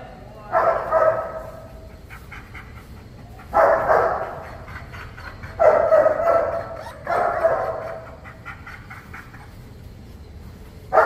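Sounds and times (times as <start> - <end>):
large dog barking: 0.5 - 10.2.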